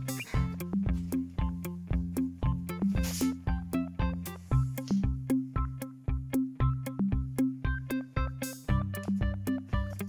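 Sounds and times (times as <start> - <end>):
bouncy tune with bass line: 0.0 - 10.0.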